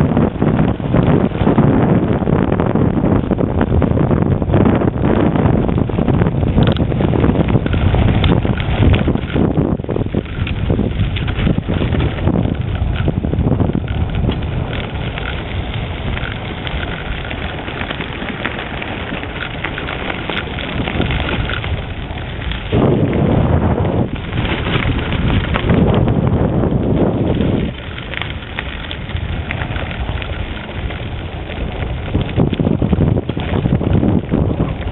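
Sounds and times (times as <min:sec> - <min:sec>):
tyres crackling over gravel: 0:00.0 - 0:34.9
wind buffeting microphone: 0:00.0 - 0:34.9.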